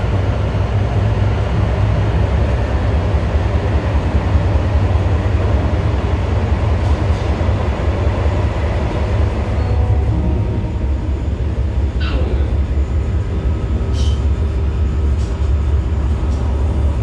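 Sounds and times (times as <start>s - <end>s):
train running low rumble: 0.0s - 17.0s
train track noise: 0.0s - 17.0s.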